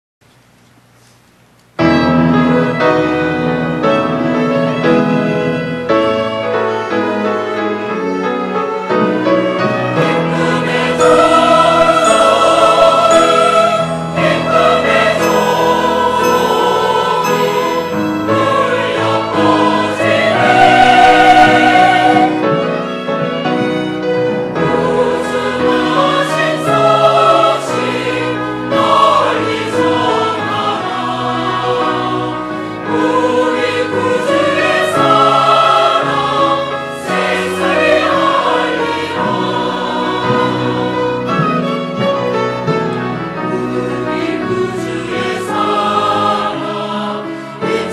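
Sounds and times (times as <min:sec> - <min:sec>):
church choir singing: 0:01.8 - 0:47.9.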